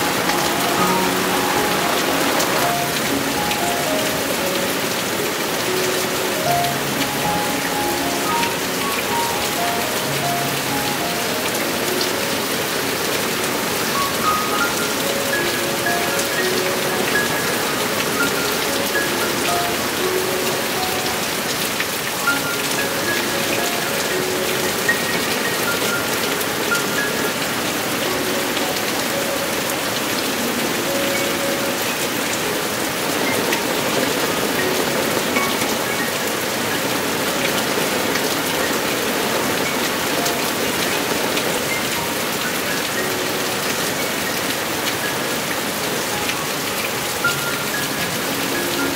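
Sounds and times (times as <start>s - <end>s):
heavy rain falling: 0.0s - 48.9s
slow soft melody: 0.0s - 48.9s.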